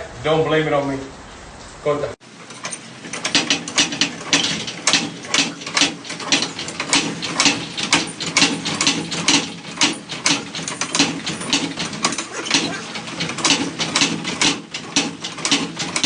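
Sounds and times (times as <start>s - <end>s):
ratcheting mechanical clicks: 2.4s - 16.0s.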